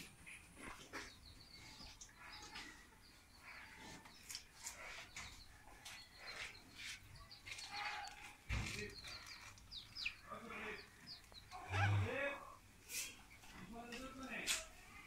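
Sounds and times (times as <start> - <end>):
rural background noise: 0.0 - 15.0.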